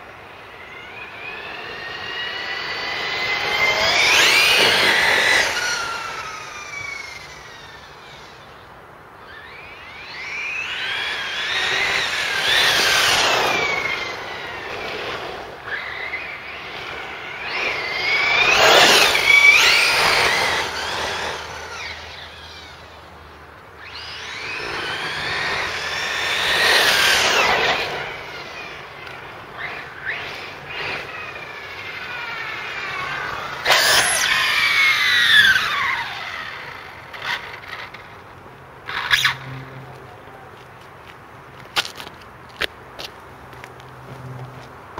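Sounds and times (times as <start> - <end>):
rc car electric motor whining past: 0.0 - 40.5.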